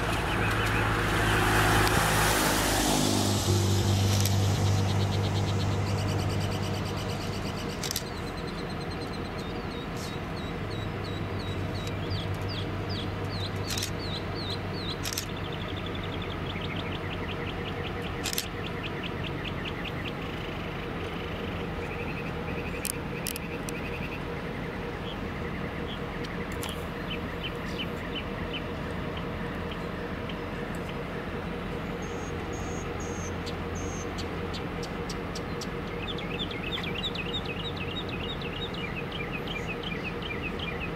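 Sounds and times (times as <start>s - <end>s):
bird chirping: 0.0s - 40.9s
diesel locomotive idling: 2.8s - 40.9s.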